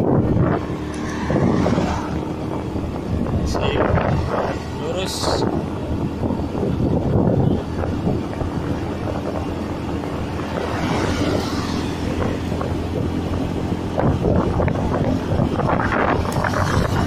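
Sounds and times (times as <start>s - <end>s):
motorcycle engine humming: 0.0s - 17.0s
wind rushing over microphone: 0.0s - 17.0s.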